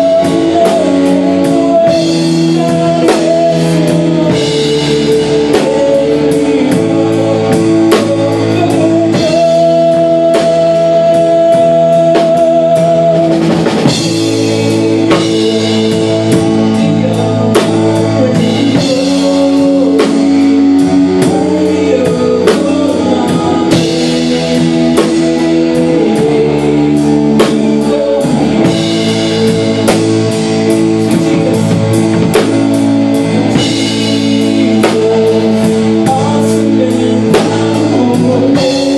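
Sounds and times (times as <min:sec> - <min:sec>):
drum kit steady beat: 0:00.0 - 0:38.9
guitars and sustained chords: 0:00.0 - 0:38.9.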